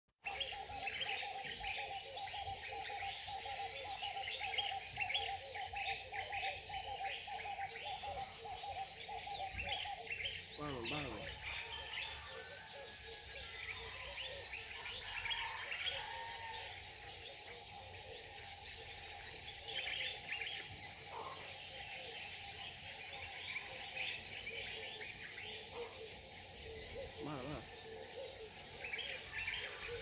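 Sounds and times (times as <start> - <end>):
birds chirping: 0.2 - 30.0.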